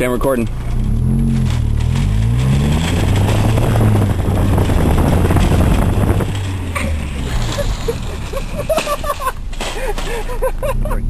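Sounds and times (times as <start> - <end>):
car engine pulling away: 0.0 - 11.0
rough rumble: 0.0 - 11.0.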